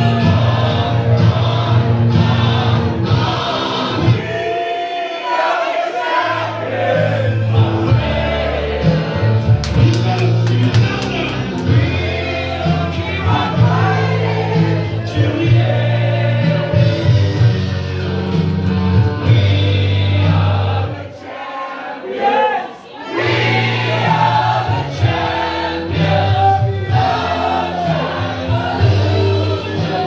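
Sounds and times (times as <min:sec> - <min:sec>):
loud song with heavy bass: 0:00.0 - 0:04.6, 0:06.1 - 0:21.5, 0:23.2 - 0:30.0
crowd singing along: 0:00.0 - 0:30.0.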